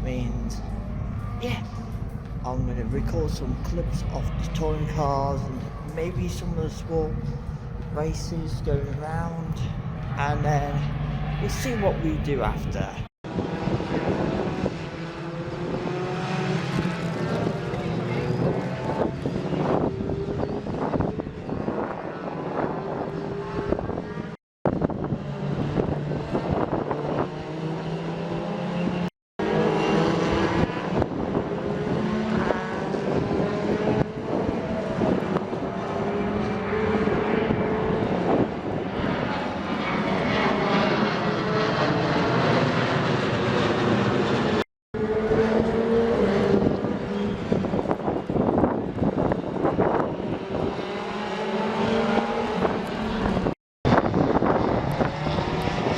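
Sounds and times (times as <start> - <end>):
racing car engines passing: 0.0 - 24.3, 25.0 - 55.9.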